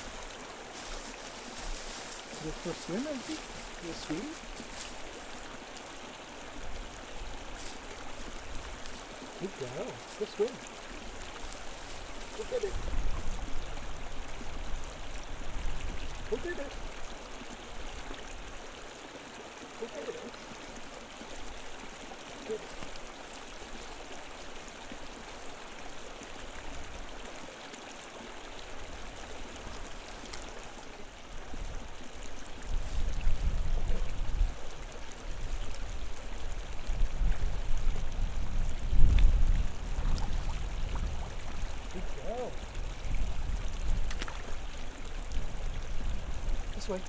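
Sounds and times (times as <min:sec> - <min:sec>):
flowing brook: 0:00.0 - 0:47.0.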